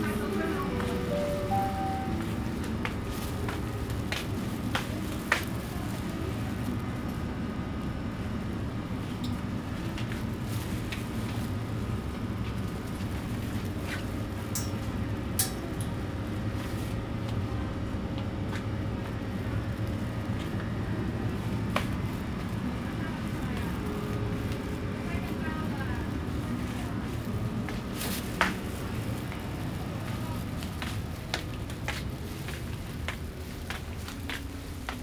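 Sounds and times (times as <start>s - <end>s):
freezers and ventilation humming: 0.0s - 35.0s.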